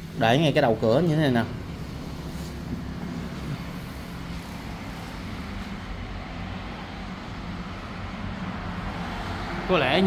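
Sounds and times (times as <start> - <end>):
highway traffic rumble: 0.0 - 10.0
faint engine hum: 0.8 - 10.0.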